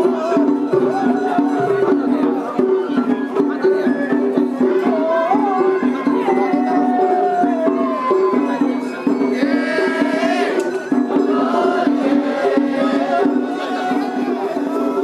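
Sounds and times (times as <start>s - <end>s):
festival drumming: 0.0s - 15.0s
festival melody: 0.0s - 15.0s.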